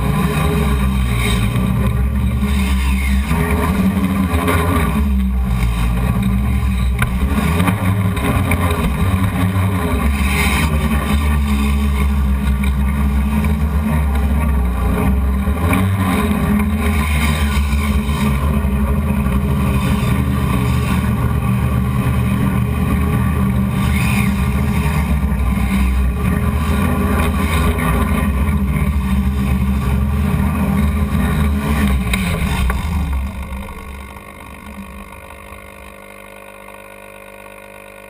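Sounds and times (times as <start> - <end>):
drone motors and propellers droning: 0.0 - 38.0.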